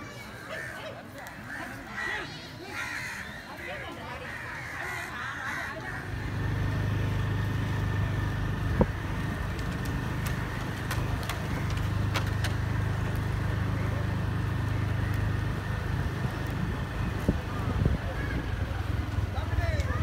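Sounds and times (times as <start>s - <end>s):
engine humming: 2.7s - 20.0s.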